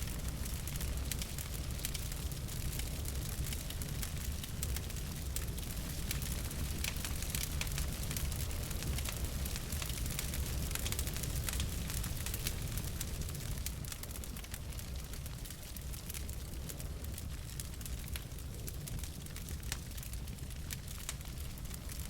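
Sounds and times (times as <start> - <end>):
low rumble of burning: 0.0 - 22.0
wood fire crackling and popping: 0.0 - 22.0.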